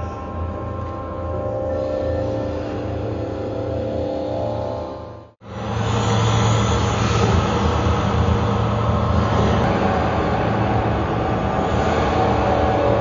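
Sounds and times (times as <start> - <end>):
rumbling electronic drone: 0.0 - 13.0.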